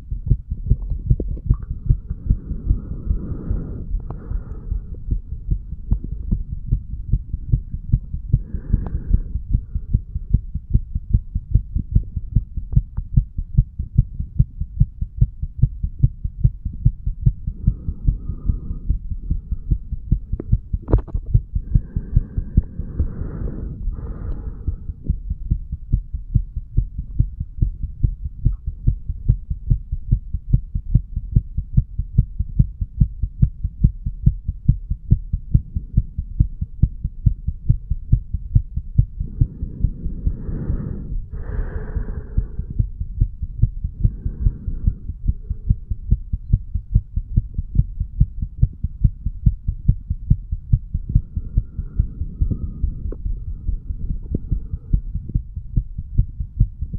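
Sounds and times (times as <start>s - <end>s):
heartbeat lub-dub thumps: 0.0s - 56.9s.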